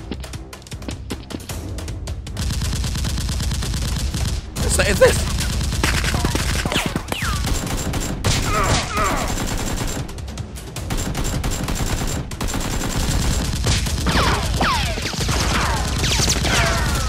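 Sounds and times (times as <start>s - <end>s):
automatic gunfire bursts: 2.4s - 10.1s, 10.9s - 17.0s.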